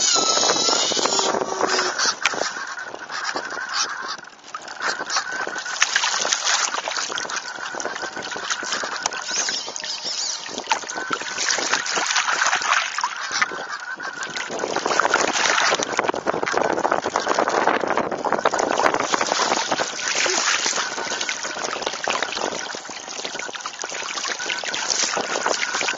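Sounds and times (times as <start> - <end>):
water splashing against hull: 0.0 - 25.9.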